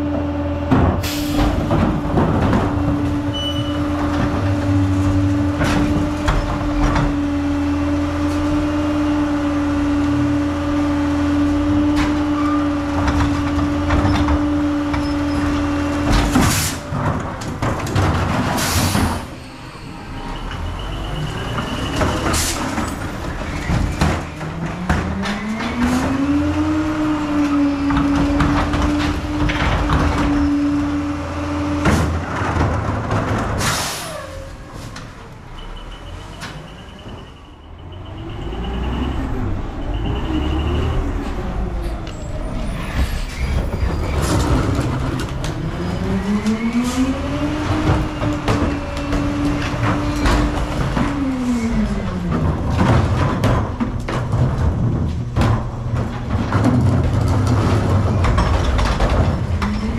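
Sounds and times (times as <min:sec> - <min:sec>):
garbage truck engine revving: 0:00.0 - 0:59.9
trash carts knocking and clanking: 0:00.0 - 0:59.9.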